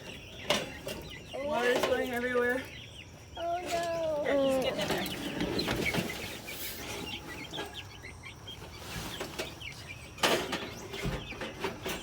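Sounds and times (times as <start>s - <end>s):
young chickens peeping and clucking: 0.0s - 12.0s.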